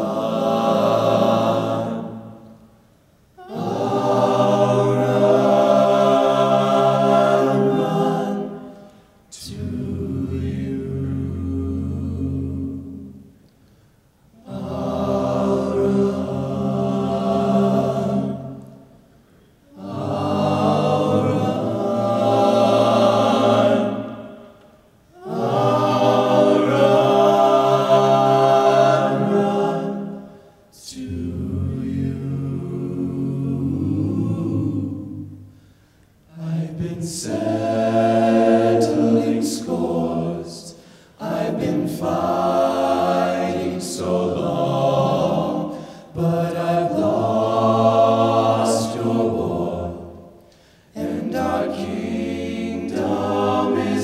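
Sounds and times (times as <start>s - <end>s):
men's a cappella choir singing: 0.0s - 2.6s, 3.4s - 13.4s, 14.4s - 19.0s, 19.6s - 35.7s, 36.3s - 54.0s.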